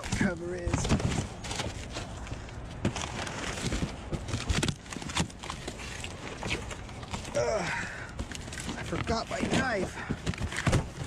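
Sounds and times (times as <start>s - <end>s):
plastic parts and boxes rummaged: 0.0s - 11.0s.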